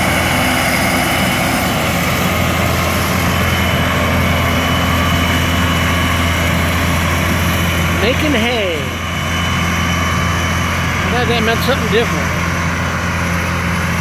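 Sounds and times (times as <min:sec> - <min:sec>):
tractor and mower droning: 0:00.0 - 0:14.0.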